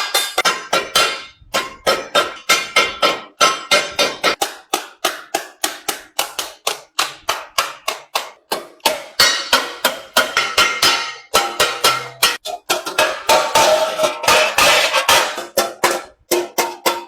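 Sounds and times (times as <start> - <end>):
hammer striking metal on anvil: 0.0 - 17.0.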